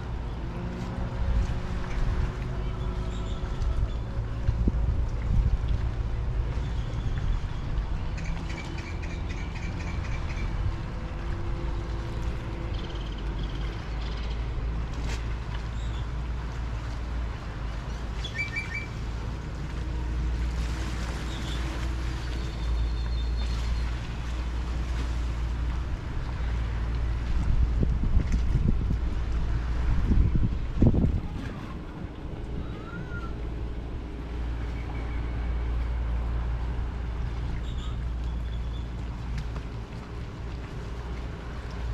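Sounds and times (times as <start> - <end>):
low rumble of wind and water: 0.0 - 41.9.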